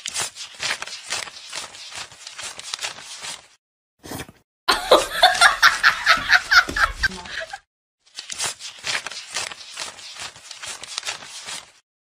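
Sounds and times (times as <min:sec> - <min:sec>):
banknotes rustling: 0:00.0 - 0:03.6, 0:05.4 - 0:11.8.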